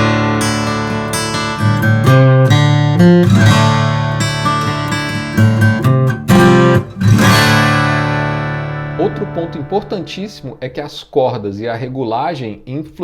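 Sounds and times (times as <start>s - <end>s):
acoustic guitar playing: 0.0s - 11.1s.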